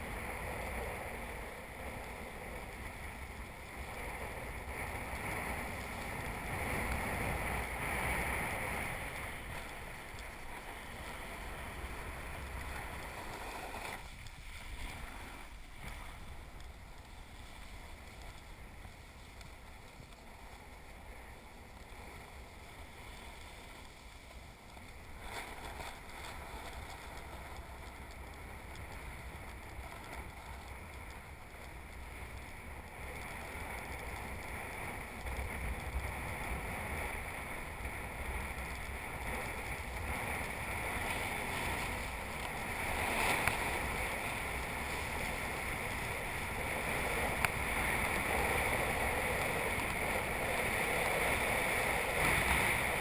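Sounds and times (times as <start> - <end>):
skis scraping over snow: 0.0 - 53.0
wind rumbling on microphone: 0.0 - 53.0.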